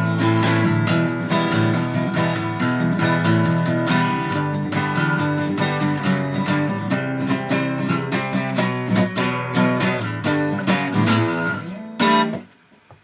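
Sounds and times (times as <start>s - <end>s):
guitar strumming chords: 0.0s - 12.6s.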